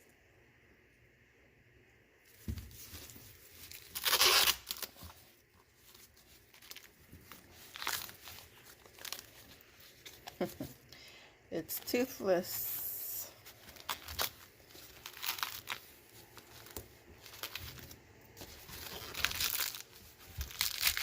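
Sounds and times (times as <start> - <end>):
corn husk tearing: 2.3 - 10.7, 11.8 - 21.0.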